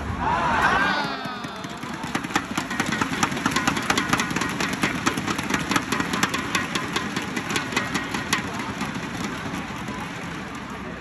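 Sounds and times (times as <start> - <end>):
cheer sticks clattering: 1.0 - 10.5.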